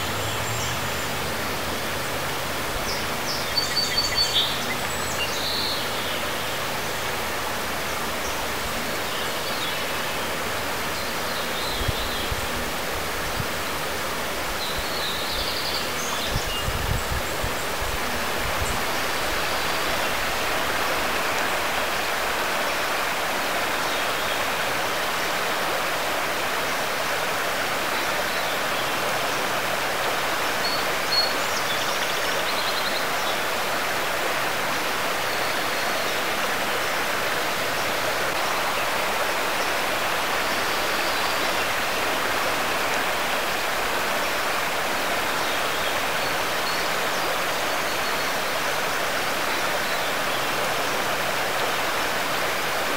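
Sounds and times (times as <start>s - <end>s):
stream water flowing over stones: 0.0s - 52.9s.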